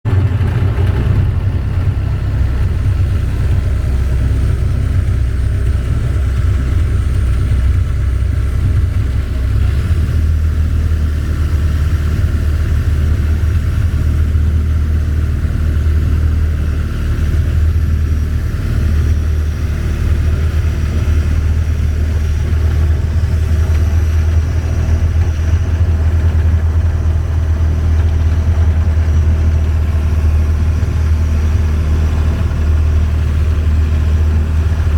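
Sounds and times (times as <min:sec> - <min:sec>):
boat engine droning: 0:00.1 - 0:34.9.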